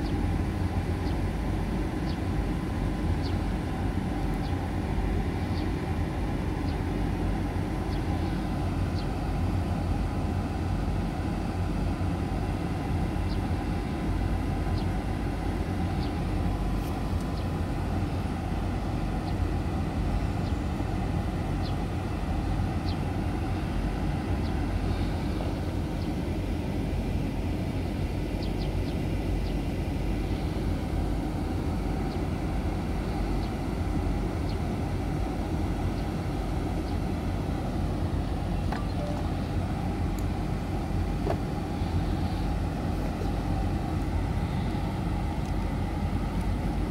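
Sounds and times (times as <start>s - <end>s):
low outdoor rumble: 0.0s - 46.9s.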